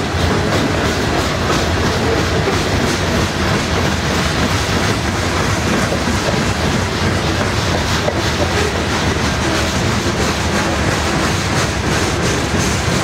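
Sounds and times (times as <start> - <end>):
freight cars rumbling on rails: 0.0 - 13.0
wheels clicking over rail joints: 0.0 - 13.0.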